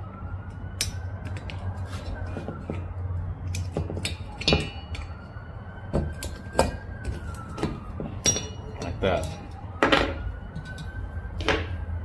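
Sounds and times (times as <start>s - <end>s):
distant siren: 0.0s - 12.0s.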